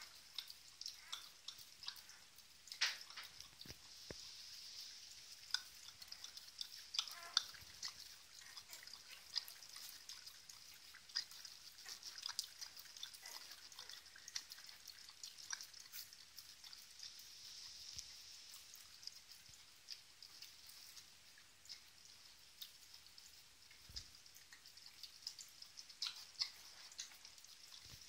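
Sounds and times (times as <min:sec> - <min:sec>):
puppies suckling wet clicks: 0:00.0 - 0:28.0.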